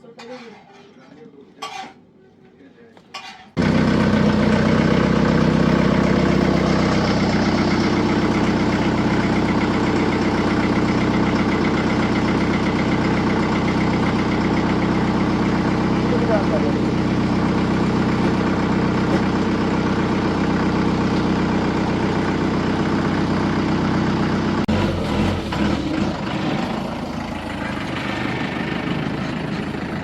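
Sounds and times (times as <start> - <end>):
truck engine running: 3.6 - 30.0.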